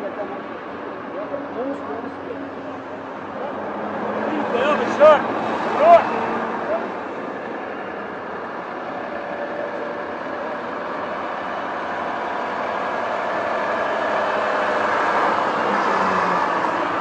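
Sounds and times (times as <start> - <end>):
heavy trucks passing: 0.0 - 17.0.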